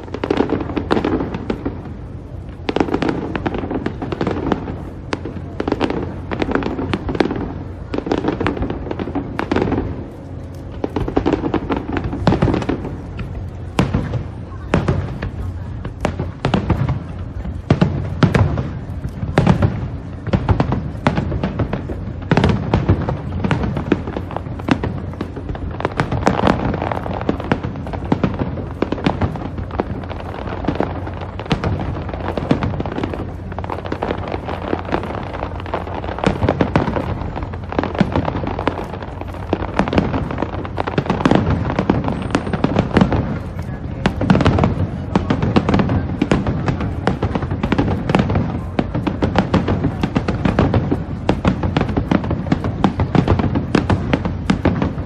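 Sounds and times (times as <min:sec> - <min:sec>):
firework crackling: 0:00.0 - 0:55.0.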